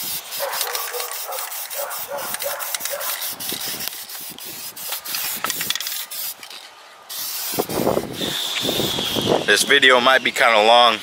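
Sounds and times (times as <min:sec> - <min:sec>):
spray paint can hissing: 0:00.0 - 0:09.6.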